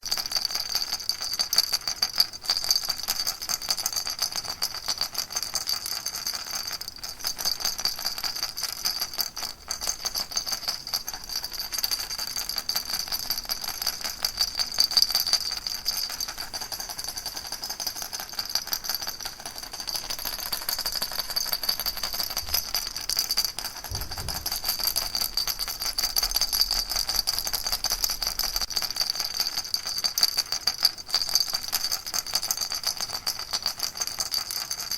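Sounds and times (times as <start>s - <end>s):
baby rattle shaken: 0.0s - 33.4s.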